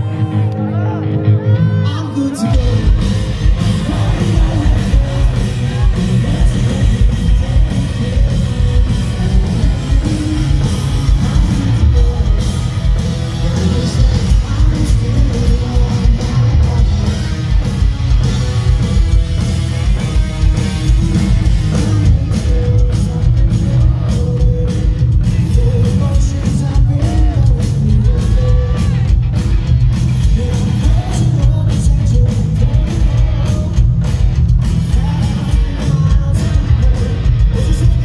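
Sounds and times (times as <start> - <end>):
person singing lead vocal: 0.0 - 19.2, 19.8 - 29.3, 30.1 - 38.0
rock band playing: 0.0 - 38.0.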